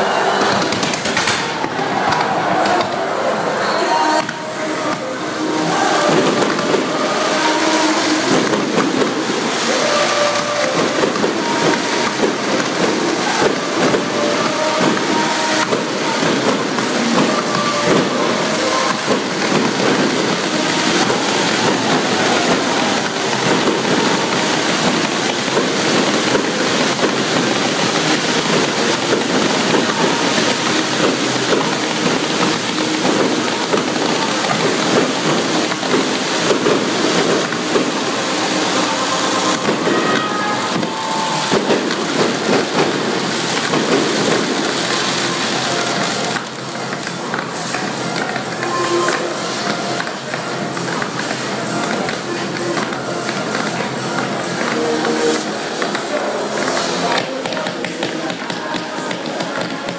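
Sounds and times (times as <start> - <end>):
fireworks hissing and crackling: 0.0 - 59.9.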